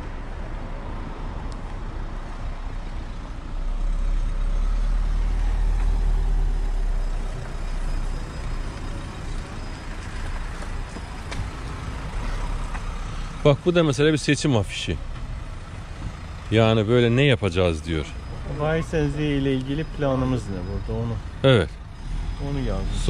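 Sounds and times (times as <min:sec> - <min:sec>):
street traffic: 0:00.0 - 0:23.0
large vehicle rumbling past: 0:02.5 - 0:23.0.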